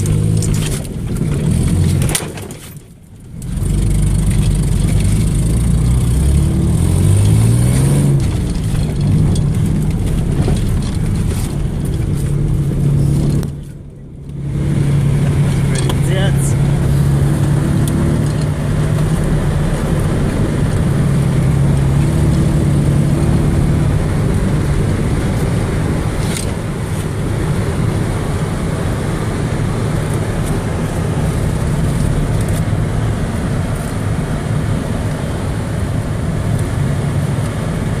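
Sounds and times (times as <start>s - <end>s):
pickup truck engine running: 0.0s - 38.0s.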